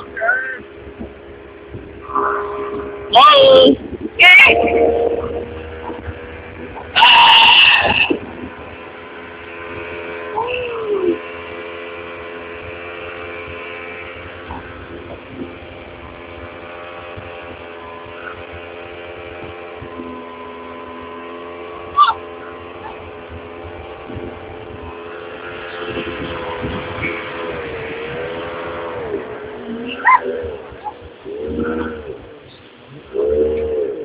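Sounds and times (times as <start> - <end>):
motorboat engine droning: 0.0 - 34.0.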